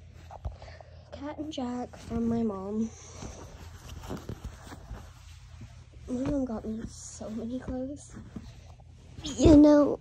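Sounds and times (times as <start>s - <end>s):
fabric rustling: 1.4s - 10.0s.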